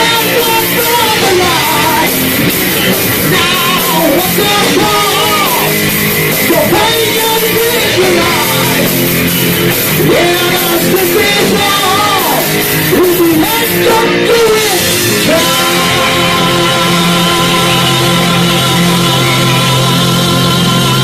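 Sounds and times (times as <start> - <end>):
person singing: 0.0 - 9.2, 9.9 - 21.0
live metal band playing: 0.0 - 21.0.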